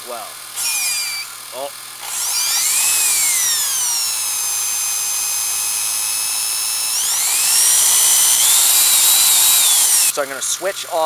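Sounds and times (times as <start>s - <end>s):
electric drill motor whining: 0.5s - 10.1s.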